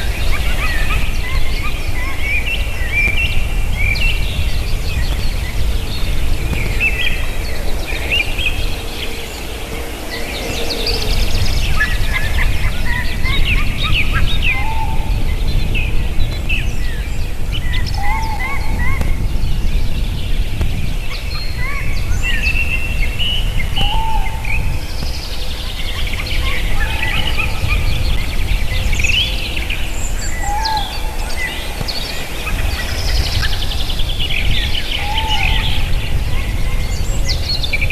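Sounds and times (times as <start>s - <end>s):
steady low rumble: 0.0s - 37.9s
wild birds chirping and trilling: 0.0s - 37.9s.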